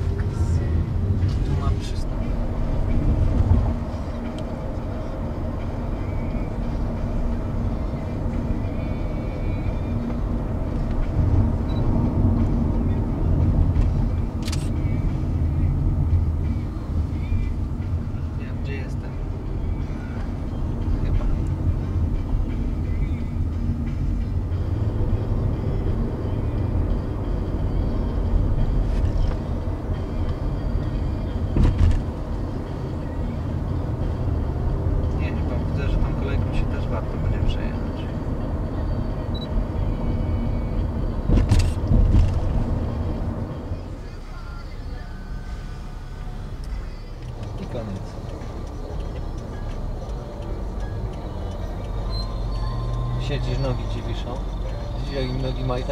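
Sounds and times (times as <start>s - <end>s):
vehicle interior rumble: 0.0s - 55.9s.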